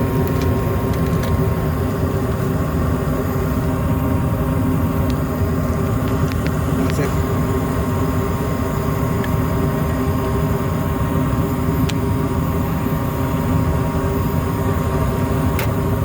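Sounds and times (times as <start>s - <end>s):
faint whine: 0.0s - 16.0s
furnace mechanical hum: 0.0s - 16.0s.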